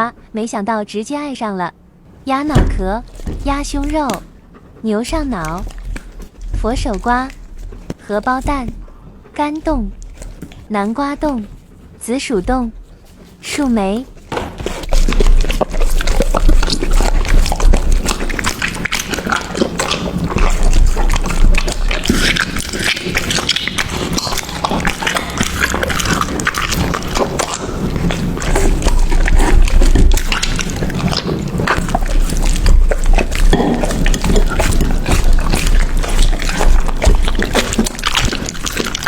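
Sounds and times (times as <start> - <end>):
dog chewing food: 1.9 - 39.0.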